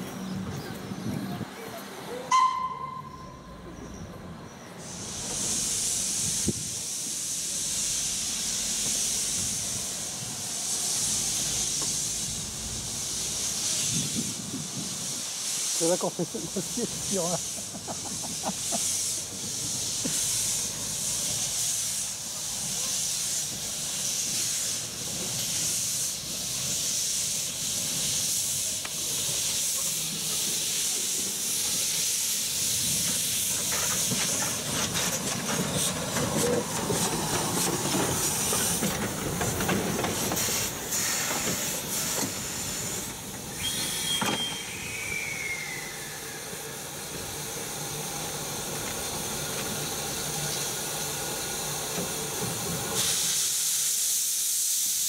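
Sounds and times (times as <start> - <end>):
steam hissing: 0.0 - 55.0.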